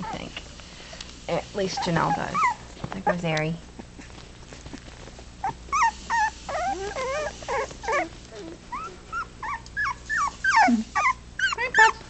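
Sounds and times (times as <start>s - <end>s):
puppies whimpering and squealing: 0.0s - 0.4s, 1.5s - 12.0s.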